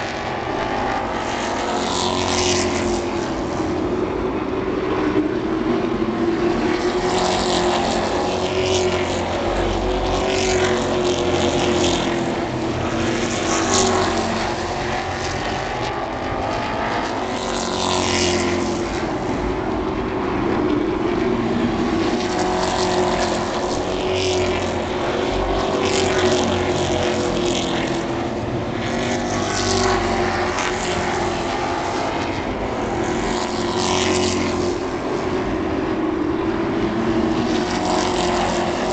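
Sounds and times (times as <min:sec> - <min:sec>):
race truck engines racing: 0:00.0 - 0:38.9.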